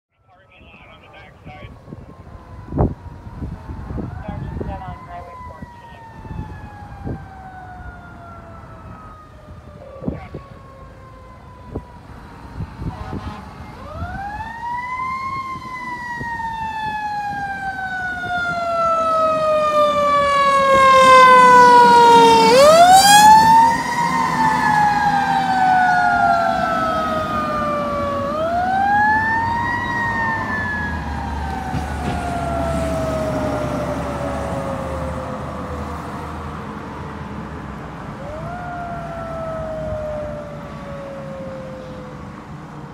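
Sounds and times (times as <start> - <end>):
fire engine siren wailing: 0.1 - 42.9.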